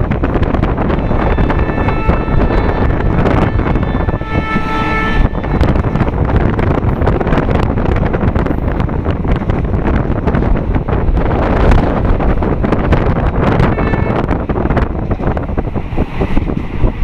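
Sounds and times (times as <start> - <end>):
moving train running noise: 0.0 - 17.0
wind buffeting microphone: 0.0 - 17.0.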